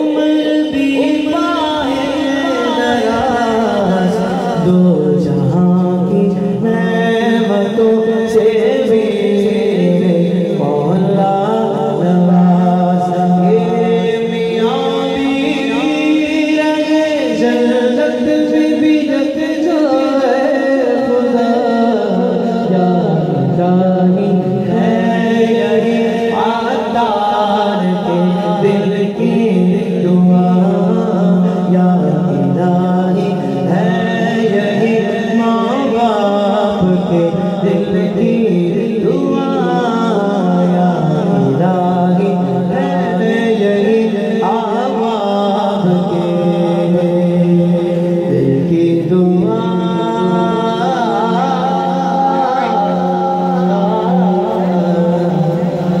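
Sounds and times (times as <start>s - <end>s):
men singing devotional chant: 0.0s - 56.0s.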